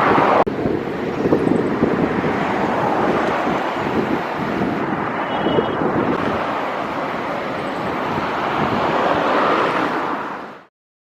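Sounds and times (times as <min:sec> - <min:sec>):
wind on microphone: 0:00.0 - 0:10.6.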